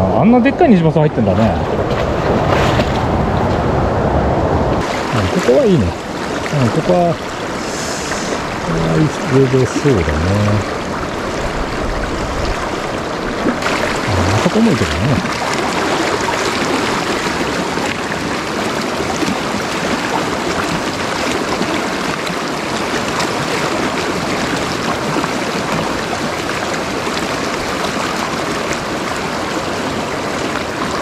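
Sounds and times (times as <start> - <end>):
water rushing over rocks: 0.9 - 31.0.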